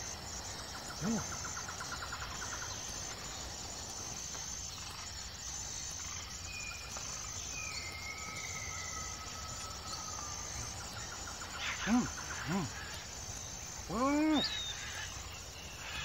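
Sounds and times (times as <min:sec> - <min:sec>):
insects singing: 0:00.0 - 0:16.0.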